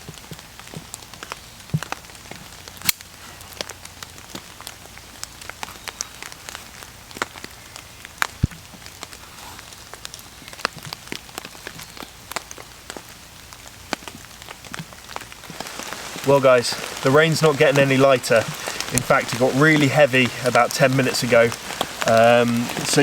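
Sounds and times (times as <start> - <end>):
heavy rain hissing: 0.0 - 23.0
raindrops hitting a tarp: 0.0 - 23.0.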